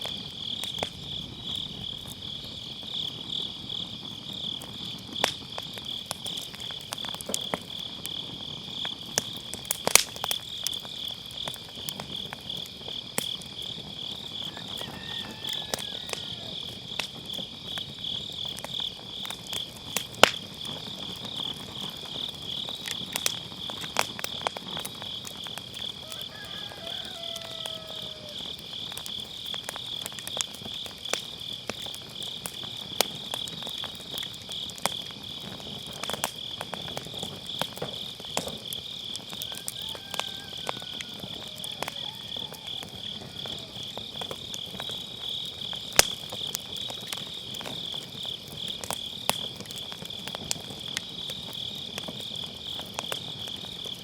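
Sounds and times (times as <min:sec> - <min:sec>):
crickets chirping: 0:00.0 - 0:54.0
firewood crackling and popping: 0:00.0 - 0:54.0.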